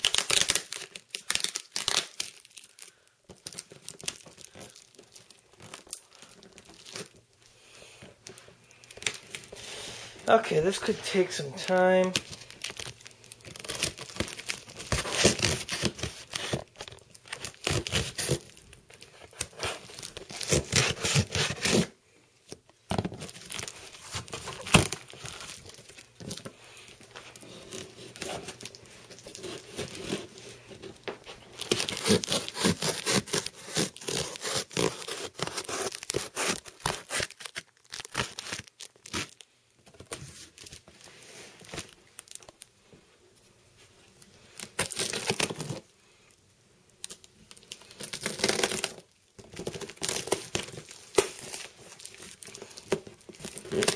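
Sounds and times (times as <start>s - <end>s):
cardboard packaging tearing: 0.0s - 7.2s, 10.5s - 22.0s, 23.1s - 39.4s, 44.6s - 45.8s, 47.0s - 53.9s.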